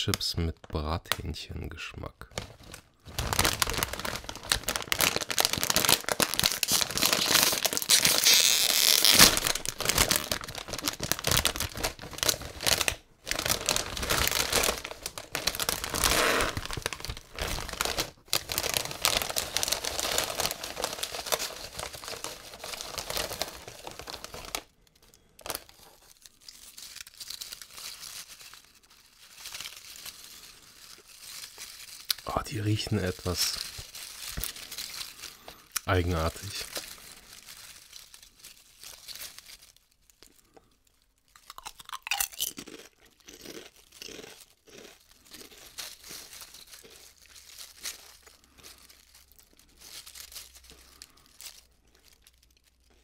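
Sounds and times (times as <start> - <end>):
foil chip bag crinkling: 0.0 - 53.0.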